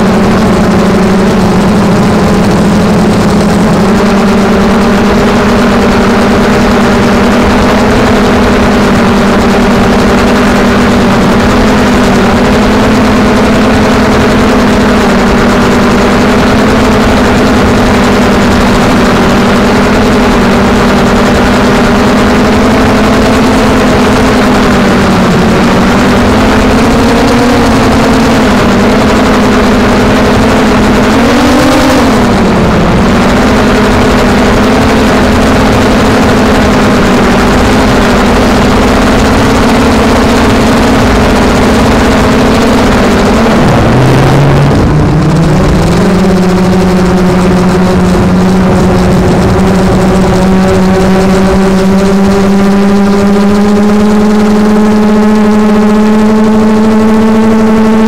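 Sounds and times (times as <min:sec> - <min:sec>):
drone propellers buzzing whine: 0:00.0 - 0:58.0.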